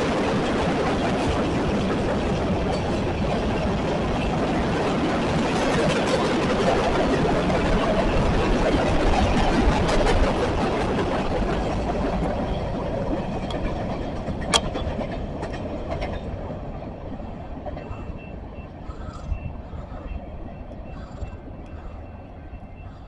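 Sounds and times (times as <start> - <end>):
train rolling on rails: 0.0 - 23.0.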